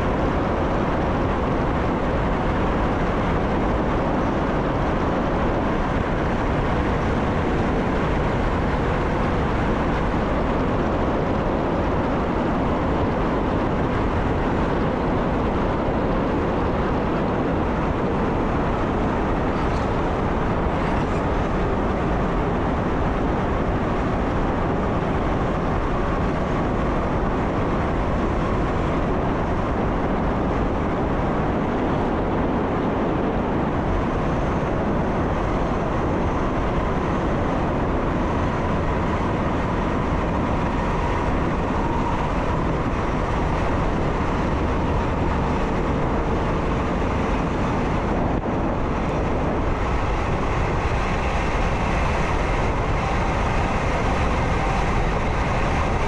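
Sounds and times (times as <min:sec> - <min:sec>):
faint whine: 0:00.0 - 0:56.0
train wheels rumbling: 0:00.0 - 0:56.0.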